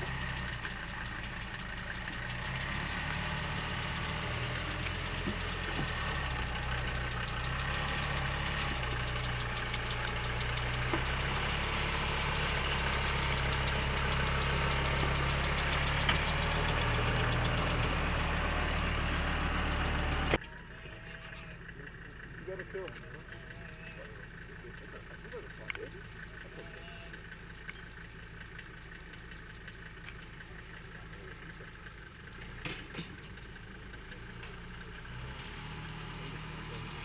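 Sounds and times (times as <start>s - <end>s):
diesel engine running at low revs: 0.0s - 37.0s.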